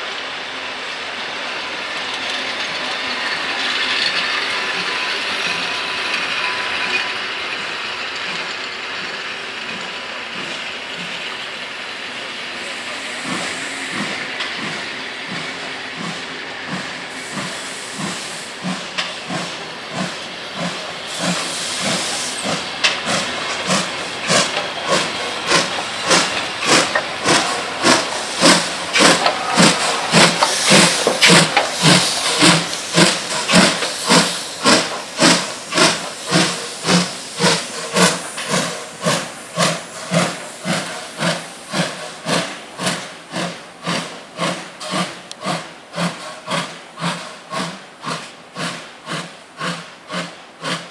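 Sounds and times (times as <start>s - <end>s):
steam hissing: 0.0s - 50.9s
steam locomotive chuffing: 0.0s - 50.9s.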